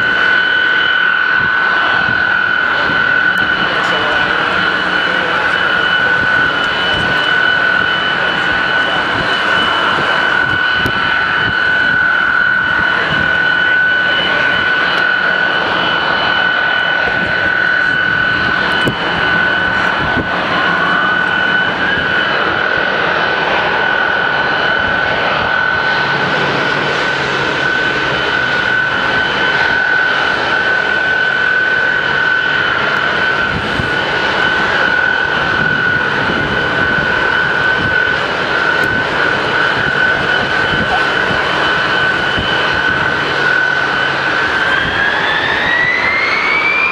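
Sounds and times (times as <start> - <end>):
high engine whine: 0.0 - 46.9
jet engines roaring: 0.0 - 46.9.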